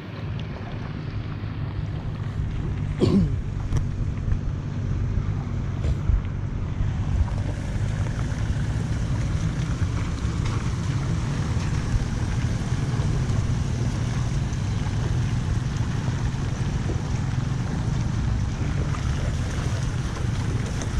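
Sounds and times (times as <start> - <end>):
flood water rushing into drain: 0.0 - 20.9.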